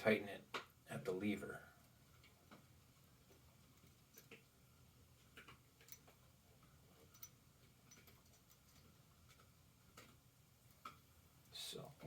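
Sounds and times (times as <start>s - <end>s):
faint clicks and ticks: 1.7s - 12.0s.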